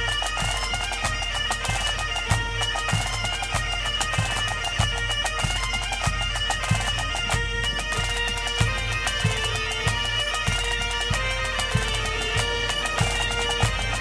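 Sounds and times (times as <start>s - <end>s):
bagpipe music: 0.0s - 14.0s
drum beat: 1.1s - 14.0s.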